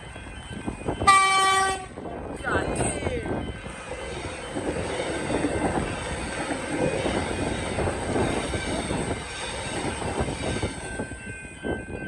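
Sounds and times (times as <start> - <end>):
crossing bell ringing: 0.0 - 12.0
train wheels rumbling on rails: 0.0 - 12.0.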